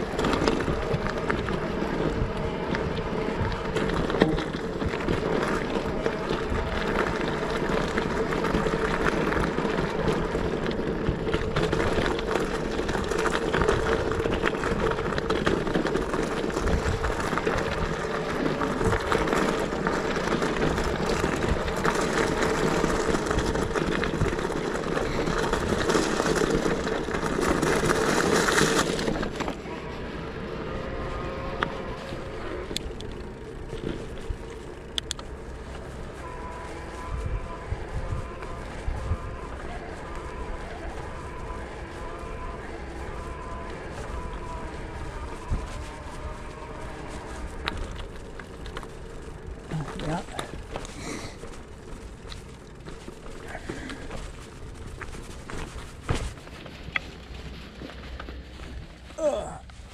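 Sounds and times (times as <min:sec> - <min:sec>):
road noise from riding: 0:00.0 - 0:59.9
wind noise: 0:00.0 - 0:59.9.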